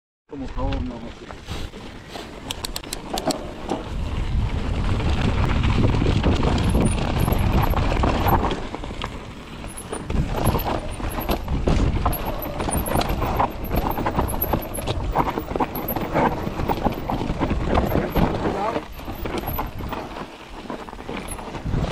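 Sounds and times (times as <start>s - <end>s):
bike rattling over rocks: 0.3s - 21.9s
bike tyres crunching over dirt: 0.3s - 21.9s
wind rumbling on microphone: 0.6s - 21.9s.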